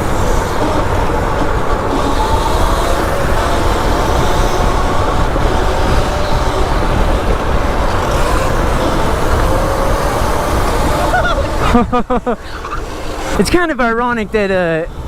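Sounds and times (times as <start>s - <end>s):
faint motor whine: 0.0s - 15.0s
road rumble: 0.0s - 15.0s
wind buffeting microphone: 0.0s - 15.0s.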